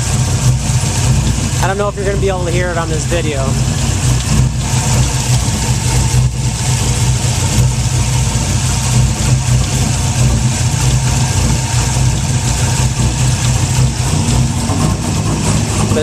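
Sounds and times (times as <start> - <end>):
car engine idling: 0.0 - 16.0
metal-on-metal engine tick: 0.0 - 16.0.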